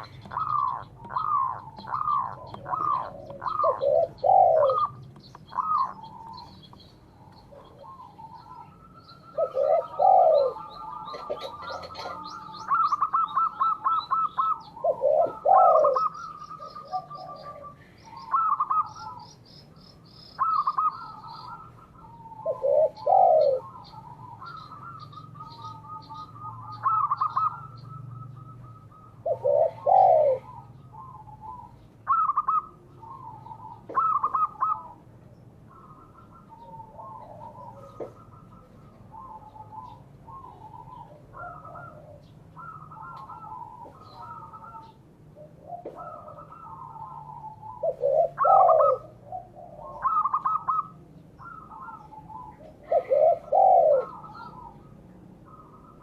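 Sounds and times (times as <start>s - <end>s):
doves cooing: 0.0s - 56.0s
small birds chirping: 0.0s - 56.0s.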